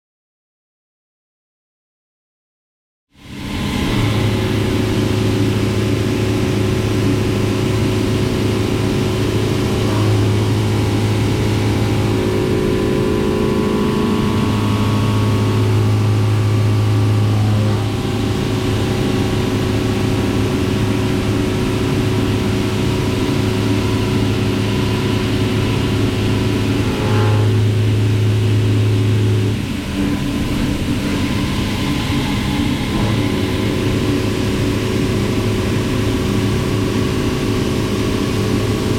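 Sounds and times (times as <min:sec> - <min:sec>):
deeper machine tone: 0:03.2 - 0:38.9
machine hum with steady tones: 0:03.2 - 0:38.9.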